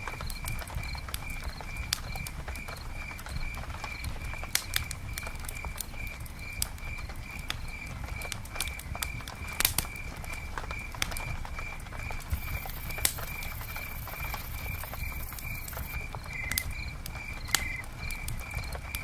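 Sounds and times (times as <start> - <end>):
campfire crackling and popping: 0.0 - 19.0
insect chirping: 0.0 - 19.0.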